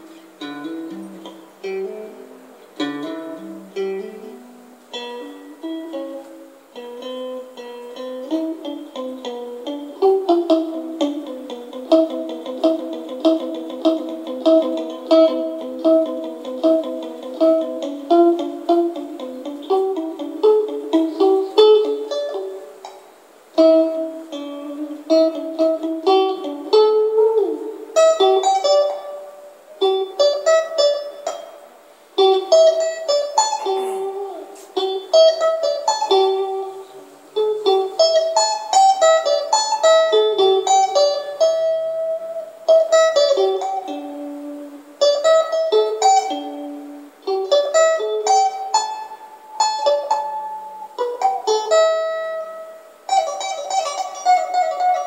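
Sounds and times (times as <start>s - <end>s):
plucked string instrument melody: 0.0s - 55.0s.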